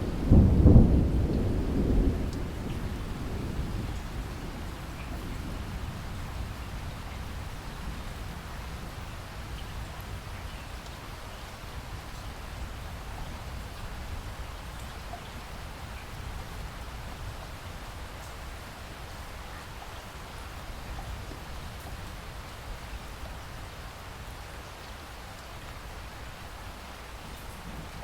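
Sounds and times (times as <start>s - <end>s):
rain drops ticking: 0.0s - 28.0s
steady rain falling: 0.0s - 28.0s.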